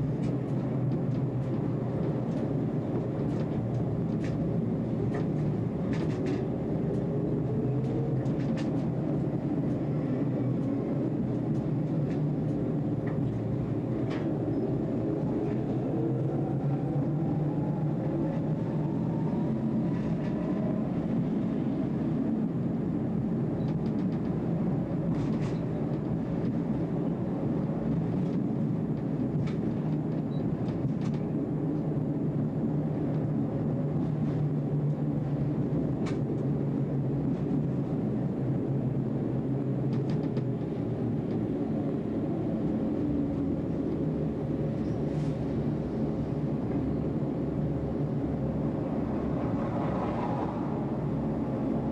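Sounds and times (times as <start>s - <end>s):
tram rumble: 0.0s - 51.9s.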